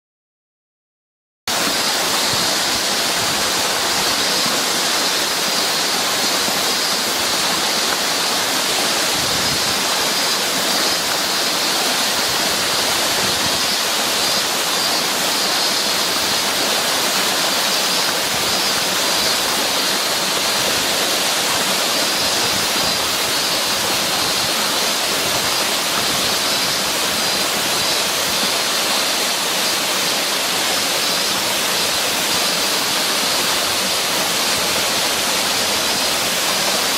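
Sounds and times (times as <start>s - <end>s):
waterfall rushing: 1.5s - 36.9s.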